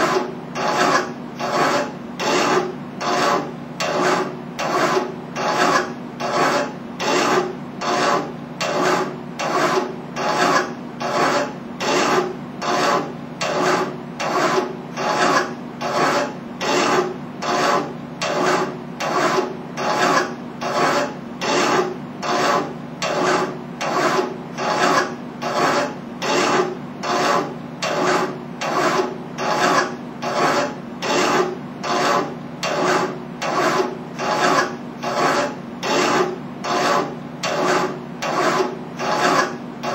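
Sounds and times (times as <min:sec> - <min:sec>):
hand file rasping on metal: 0:00.0 - 0:39.9.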